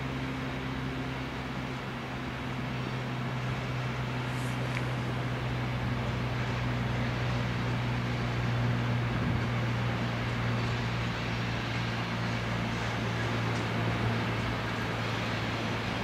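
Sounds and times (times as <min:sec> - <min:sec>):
freight train rolling: 0:00.0 - 0:16.0.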